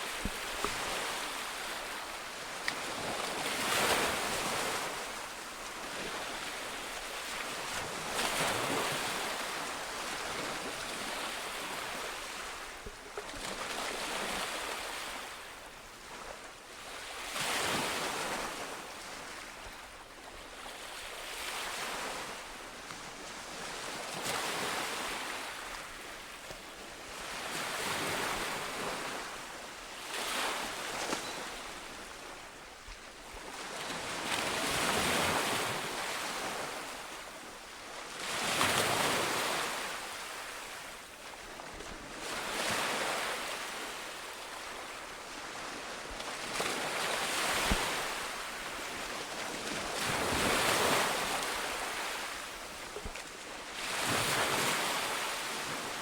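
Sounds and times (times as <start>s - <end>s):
ocean waves breaking on shore: 0.0s - 56.0s.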